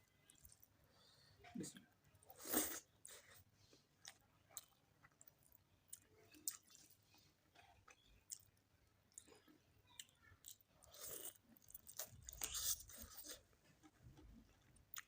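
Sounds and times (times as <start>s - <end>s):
person chewing food: 2.3s - 15.0s.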